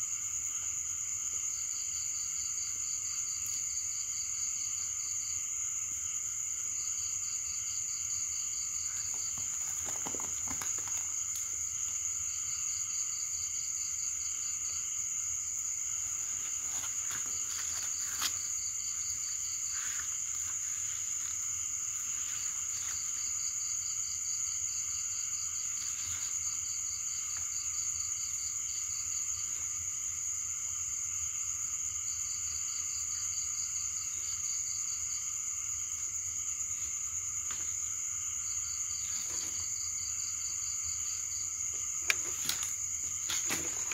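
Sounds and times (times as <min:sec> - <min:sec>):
fast pulsed insect chirping: 0:00.0 - 0:43.9
insects droning: 0:00.0 - 0:43.9.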